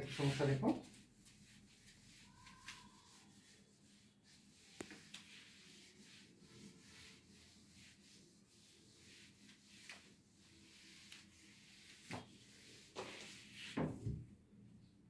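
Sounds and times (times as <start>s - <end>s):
eraser rubbing on whiteboard: 0.0s - 13.8s.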